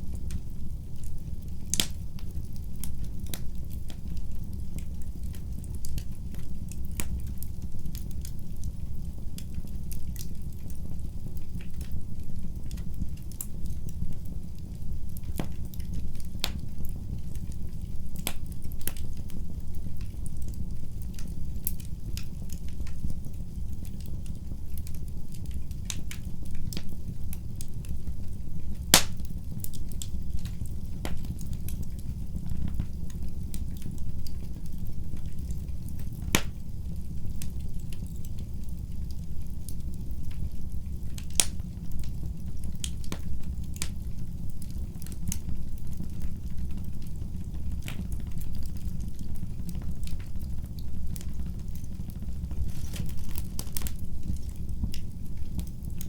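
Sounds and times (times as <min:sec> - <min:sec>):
fire crackling and popping: 0:00.0 - 0:56.0
wood fire rumbling: 0:00.0 - 0:56.0.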